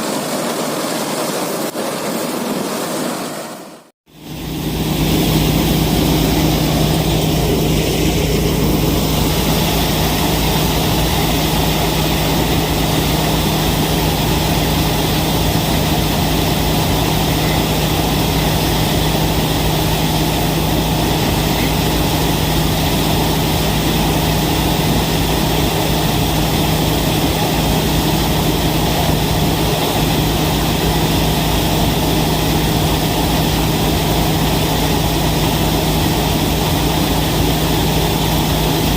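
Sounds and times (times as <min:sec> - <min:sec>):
combine harvester engine humming: 0:04.1 - 0:38.9.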